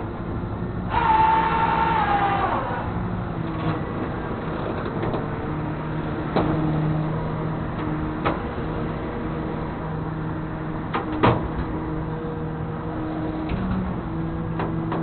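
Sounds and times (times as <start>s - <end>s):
loud mechanical whine: 0.0s - 15.0s.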